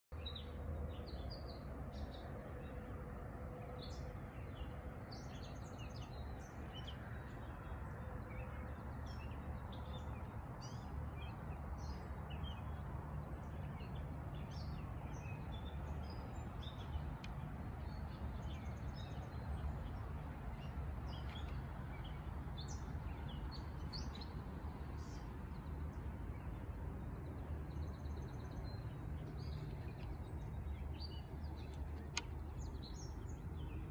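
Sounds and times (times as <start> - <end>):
small birds chirping: 3.8 - 33.9.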